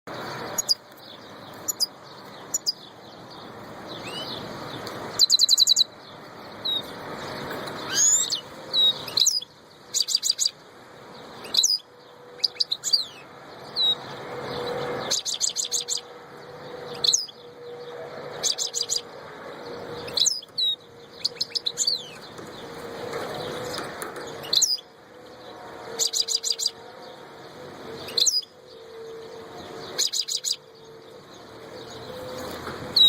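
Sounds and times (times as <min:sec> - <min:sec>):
finch singing: 0:00.2 - 0:10.6, 0:11.4 - 0:33.0.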